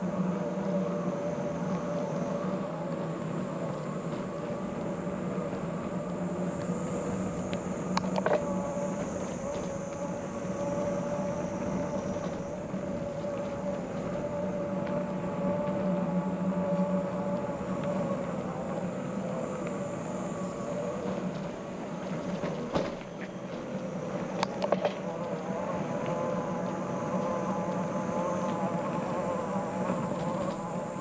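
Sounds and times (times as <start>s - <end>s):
bicycle tyre and road noise: 0.0s - 31.0s
steady hum: 0.0s - 31.0s.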